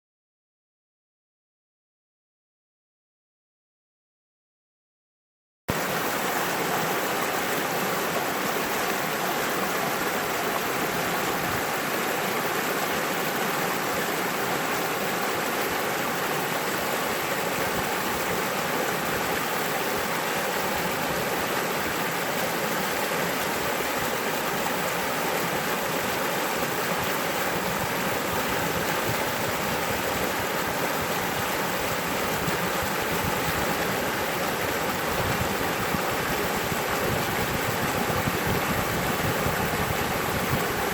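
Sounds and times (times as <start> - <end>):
mountain stream rushing: 5.7 - 40.9.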